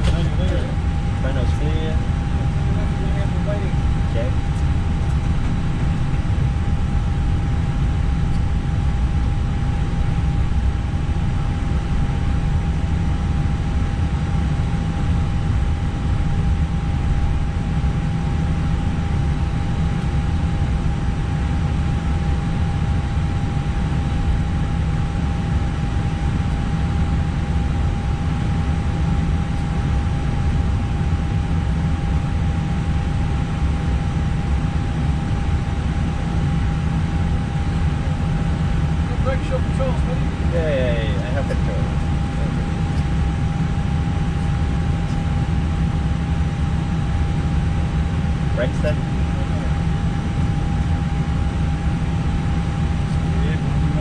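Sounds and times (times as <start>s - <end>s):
airliner engine and airflow noise: 0.0s - 54.0s
constant high hum: 0.0s - 54.0s.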